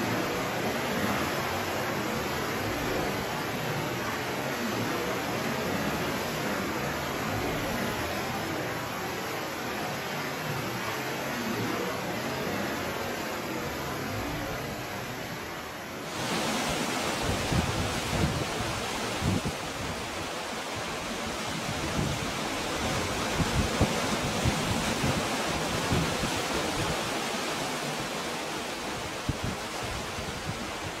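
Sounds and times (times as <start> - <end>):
surf washing through rocks: 0.0 - 31.0.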